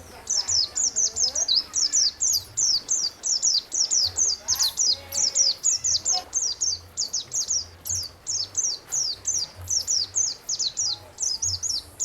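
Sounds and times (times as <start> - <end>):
songbird chirping rapidly: 0.0 - 12.0.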